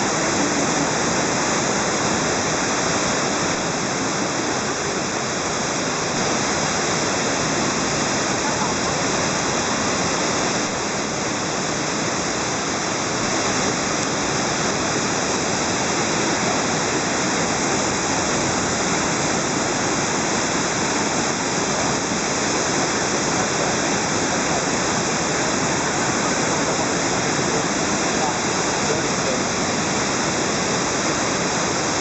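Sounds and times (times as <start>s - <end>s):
waterfall splashing: 0.0s - 32.0s.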